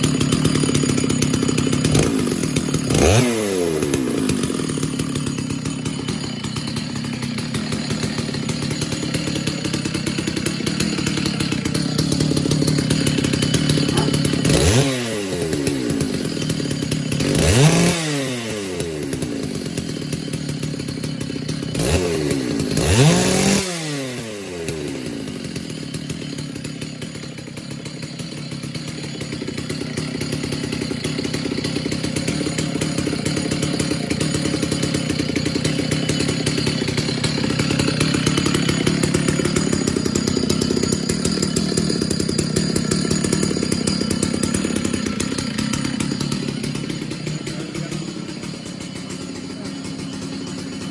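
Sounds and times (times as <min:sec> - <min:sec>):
chainsaw idling and revving: 0:00.0 - 0:50.9.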